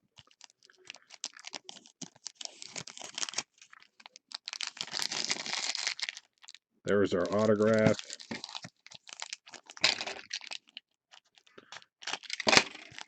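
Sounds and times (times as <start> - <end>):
cards and packaging crinkling: 0.0 - 13.0.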